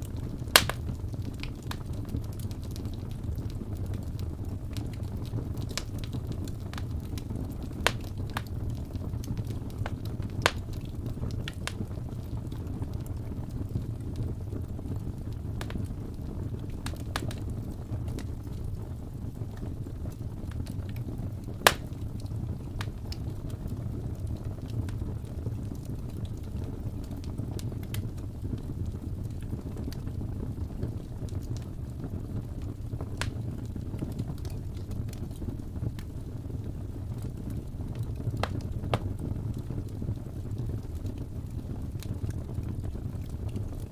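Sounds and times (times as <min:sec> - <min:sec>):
fire crackles and pops: 0:00.0 - 0:43.9
wood fire rumbling: 0:00.0 - 0:43.9.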